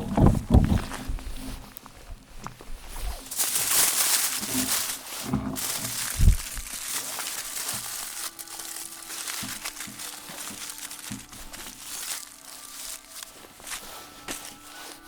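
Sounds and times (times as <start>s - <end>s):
crinkling handling noise: 0.0s - 15.0s.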